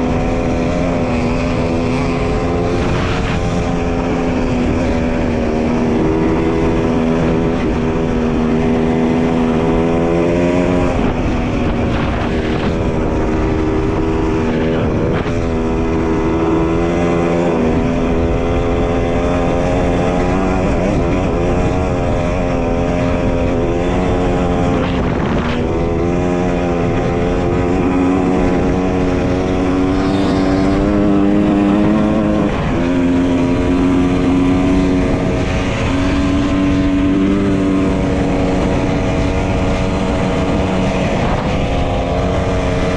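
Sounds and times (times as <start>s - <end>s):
dirt bike engine running: 0.0s - 42.9s
wind and road noise: 0.0s - 42.9s.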